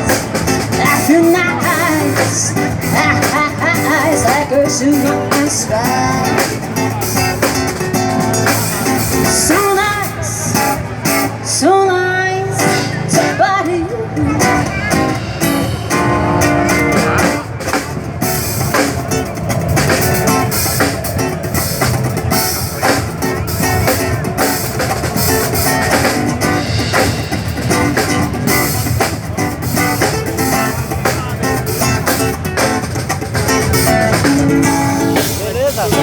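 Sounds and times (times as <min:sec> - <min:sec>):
drum kit steady beat: 0:00.0 - 0:11.6, 0:12.6 - 0:36.0
guitar: 0:00.0 - 0:36.0
instrumental band music: 0:00.0 - 0:36.0.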